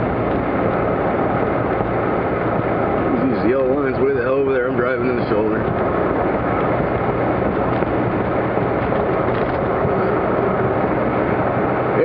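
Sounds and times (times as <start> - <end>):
car engine drone: 0.0 - 12.0
tyre and wind noise: 0.0 - 12.0.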